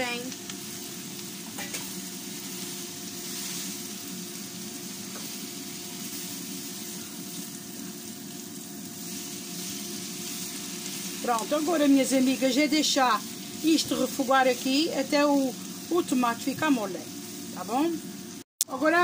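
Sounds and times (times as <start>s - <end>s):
vegetables sizzling in oil: 0.0s - 19.0s
spatula stirring in pan: 0.5s - 17.6s.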